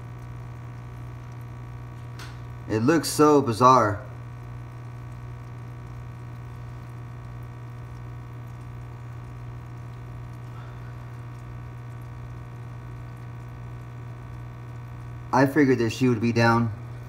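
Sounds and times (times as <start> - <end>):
aquarium filter hum: 0.0 - 17.0
water trickling: 0.0 - 17.0.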